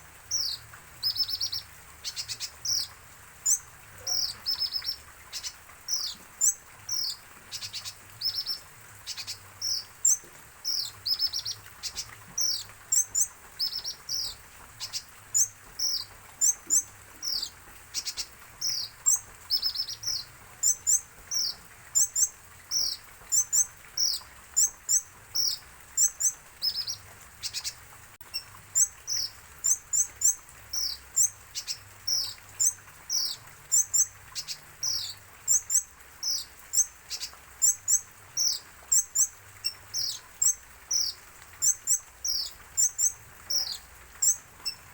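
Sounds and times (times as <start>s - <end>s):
sunbird chirping: 0.3s - 44.9s.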